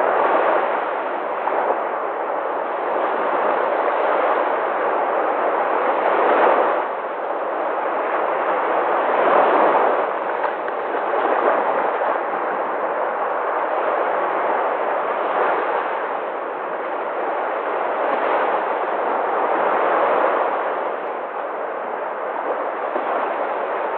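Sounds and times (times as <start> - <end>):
sea waves breaking: 0.0 - 23.9.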